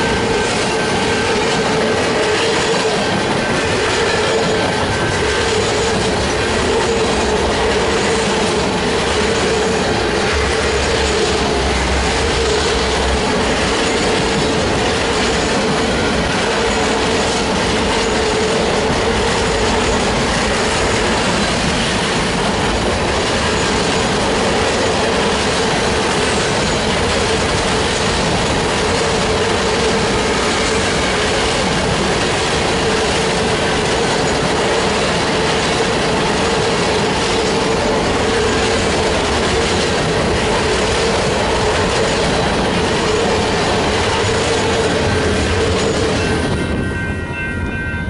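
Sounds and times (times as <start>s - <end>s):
freight train rolling on rails: 0.0s - 48.0s.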